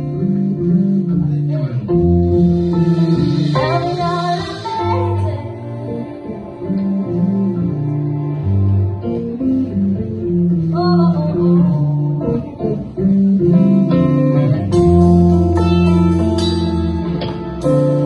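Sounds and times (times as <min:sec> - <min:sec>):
drums: 0:00.0 - 0:07.9, 0:09.0 - 0:18.0
bass: 0:00.0 - 0:18.0
electric guitar: 0:00.0 - 0:18.0.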